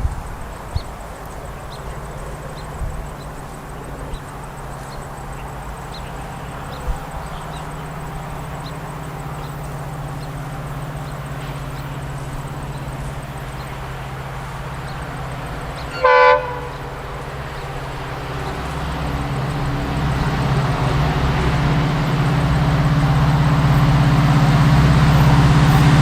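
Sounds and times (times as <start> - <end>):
diesel locomotive engine droning: 0.0 - 26.0.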